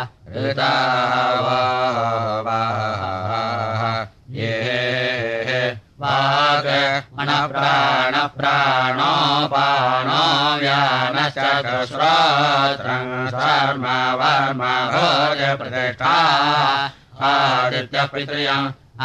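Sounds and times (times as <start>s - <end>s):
sung chant with wavering pitch: 0.0s - 19.0s.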